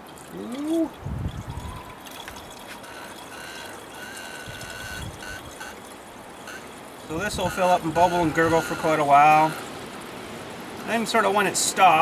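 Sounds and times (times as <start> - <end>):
liquid trickling into a tank: 0.0 - 12.0.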